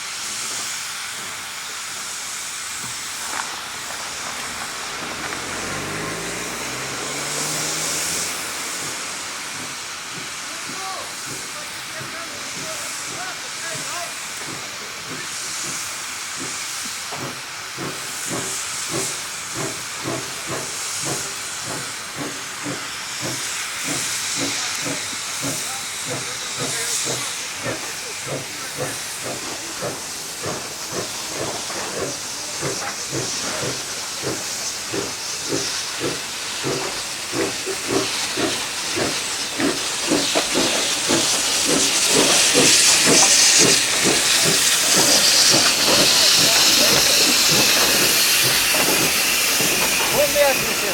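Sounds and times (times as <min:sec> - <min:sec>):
steam hissing: 0:00.0 - 0:50.9
steam locomotive chuffing: 0:00.0 - 0:50.9.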